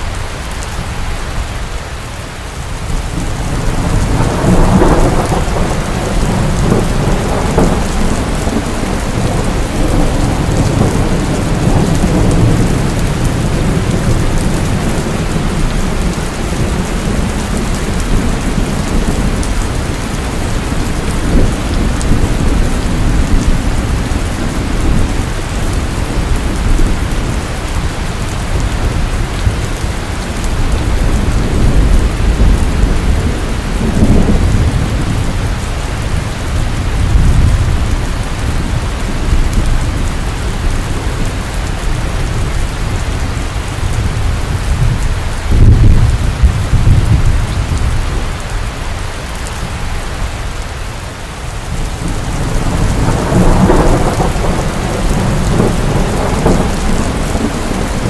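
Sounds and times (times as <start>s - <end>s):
heavy rain pouring: 0.0s - 58.0s
low thunder rumble: 2.6s - 50.7s, 51.5s - 58.0s.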